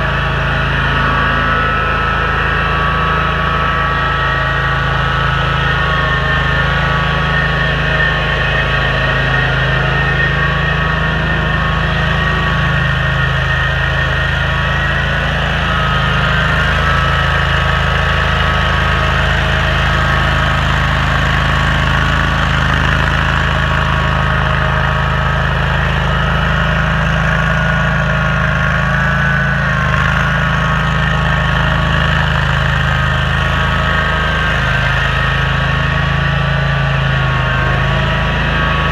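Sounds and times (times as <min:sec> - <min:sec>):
stump grinder engine running: 0:00.0 - 0:38.9.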